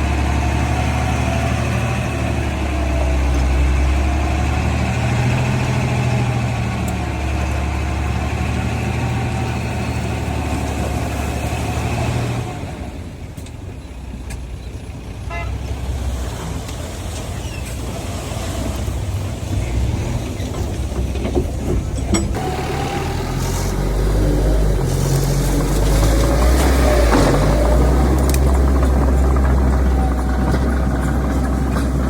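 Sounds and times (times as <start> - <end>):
heavy diesel machinery running: 0.0 - 32.0.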